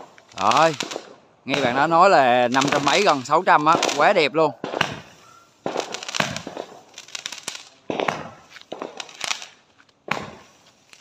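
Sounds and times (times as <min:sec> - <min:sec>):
firework bangs: 0:00.0 - 0:11.0
firework crackle: 0:00.0 - 0:11.0.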